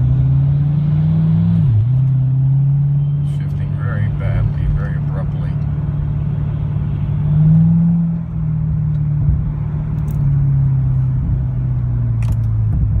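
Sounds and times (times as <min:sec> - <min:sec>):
car engine running while driving: 0:00.0 - 0:13.0.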